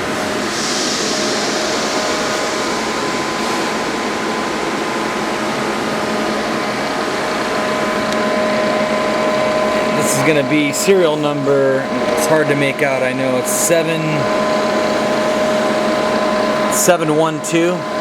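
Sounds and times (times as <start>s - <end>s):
high hiss: 0.0s - 17.3s
machine hum with whining tones: 0.0s - 18.0s.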